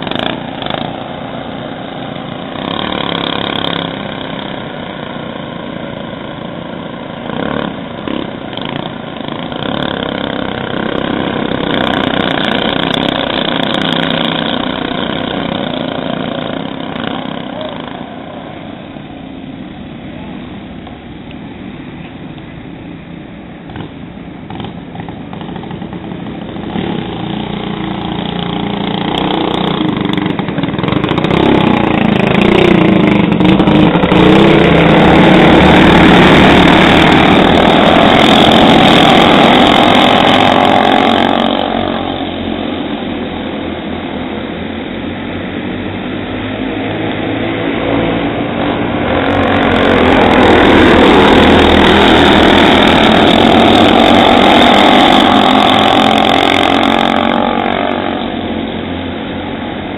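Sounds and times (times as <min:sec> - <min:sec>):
racing karts passing: 0:00.0 - 0:20.9, 0:22.8 - 0:59.9.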